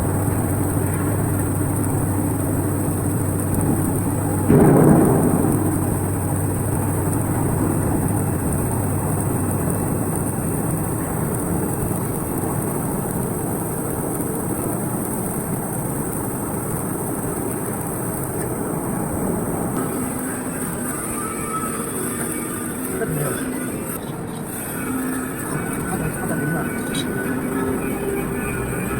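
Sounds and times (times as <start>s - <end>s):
welding machine running: 0.0s - 28.9s.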